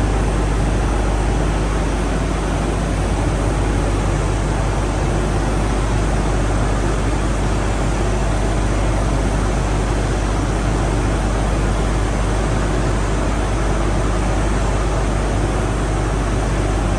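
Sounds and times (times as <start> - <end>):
filter and pipework system roar: 0.0 - 16.9.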